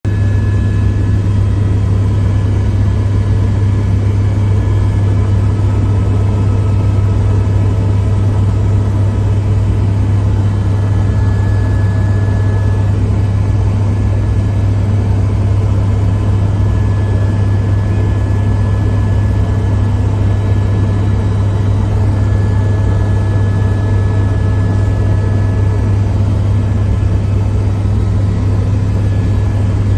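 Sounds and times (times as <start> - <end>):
low engine drone: 0.0 - 29.9.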